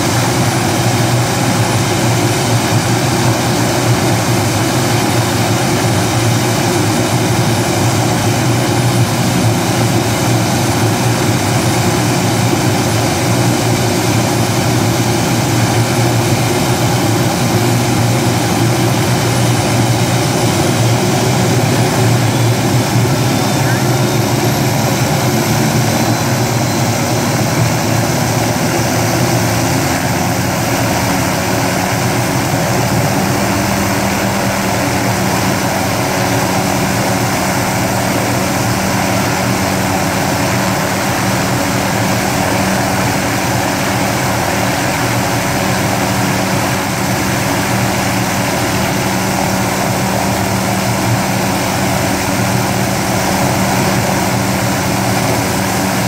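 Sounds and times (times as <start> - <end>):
helicopter idling: 0.0 - 56.0.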